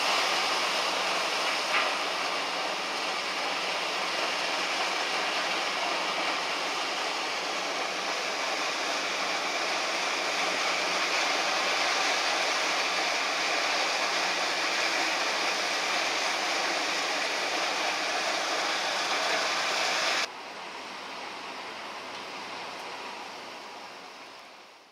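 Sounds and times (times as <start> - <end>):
ice blower rushing noise: 0.0 - 20.3.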